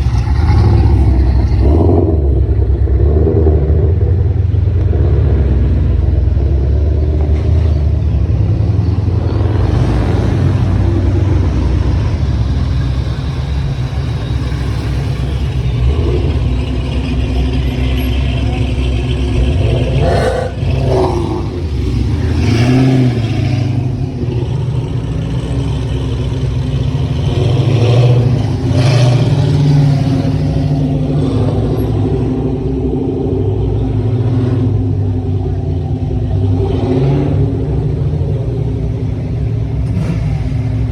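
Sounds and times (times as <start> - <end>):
car engines rumbling: 0.0 - 40.9.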